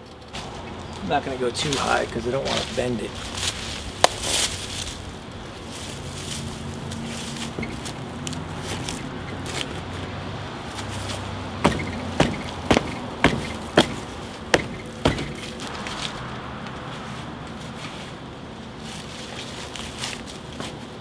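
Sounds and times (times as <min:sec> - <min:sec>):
handling and rustling: 0:00.0 - 0:21.0.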